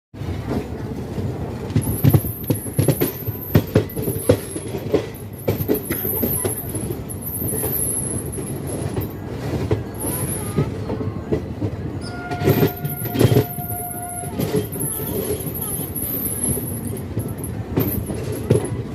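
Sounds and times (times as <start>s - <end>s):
train wheels clattering over rail joints: 0.2s - 18.9s.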